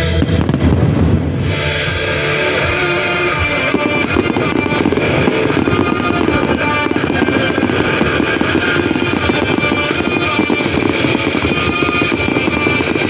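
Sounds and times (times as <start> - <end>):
fireworks bursting and crackling: 0.0 - 13.0
loud music: 0.0 - 13.0.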